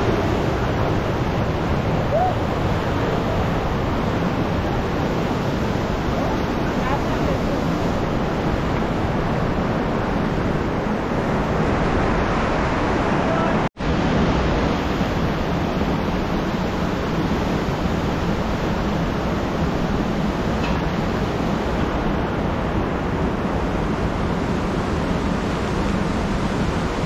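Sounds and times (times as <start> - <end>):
fast river rushing: 0.0 - 27.0.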